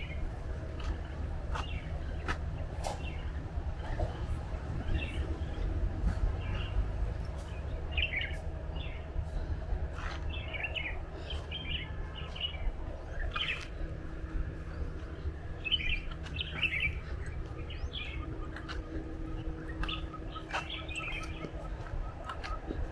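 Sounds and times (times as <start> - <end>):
small birds chirping: 0.0 - 13.8, 14.6 - 22.9
steady low rumble: 0.0 - 22.9.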